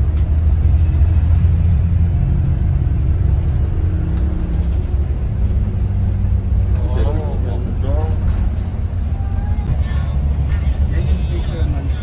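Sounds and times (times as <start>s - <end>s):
bus engine and tyres rumbling: 0.0s - 12.0s.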